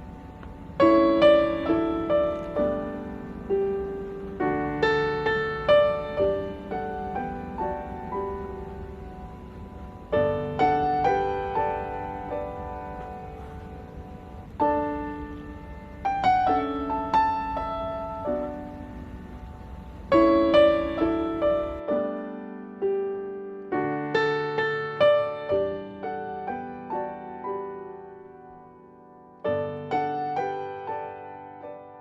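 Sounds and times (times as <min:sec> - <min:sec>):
slow piano melody: 0:00.0 - 0:32.0.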